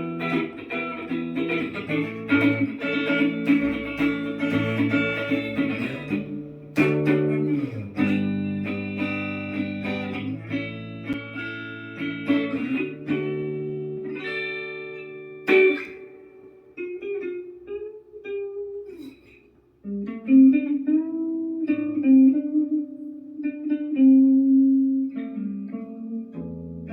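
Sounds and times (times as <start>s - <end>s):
electric guitar playing: 0.0s - 26.9s.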